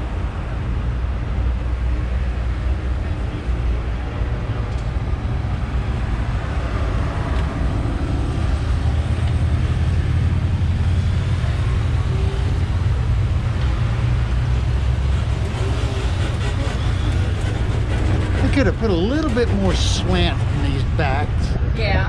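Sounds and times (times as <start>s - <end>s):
tram engine and wheels rumbling: 0.0s - 22.0s.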